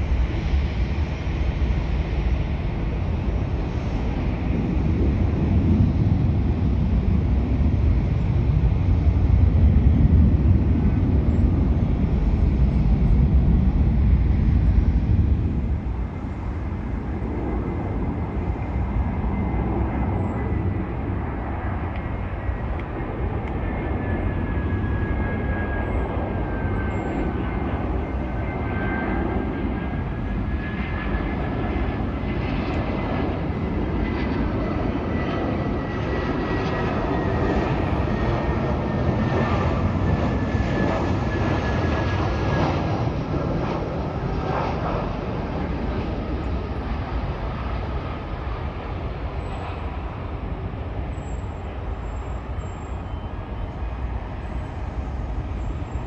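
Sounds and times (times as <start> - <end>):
jet engines passing: 0.0 - 56.0.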